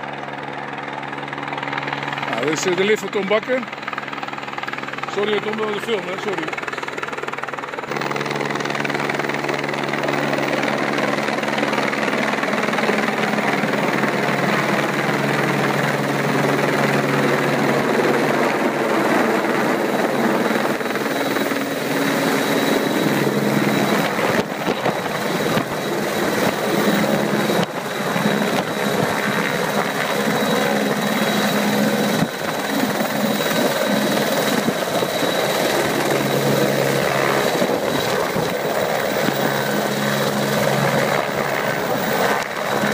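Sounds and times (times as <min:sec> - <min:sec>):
helicopter rotor beating: 0:00.0 - 0:42.9
helicopter turbine whine: 0:00.0 - 0:42.9.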